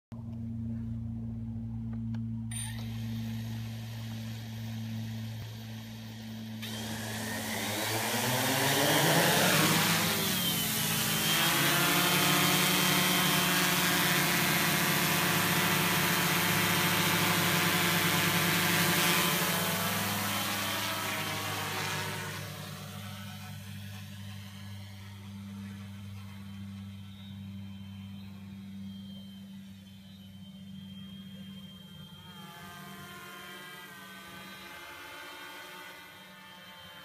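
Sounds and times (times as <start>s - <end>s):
drone motors whining and buzzing: 0.2s - 37.0s.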